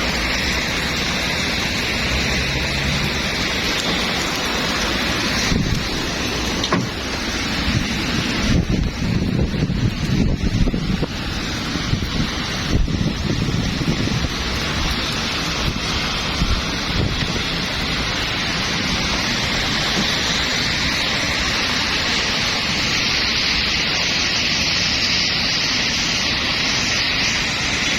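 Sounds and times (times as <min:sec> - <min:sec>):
steady rain hiss: 0:00.0 - 0:27.9
wind rumbling on microphone: 0:00.0 - 0:27.9.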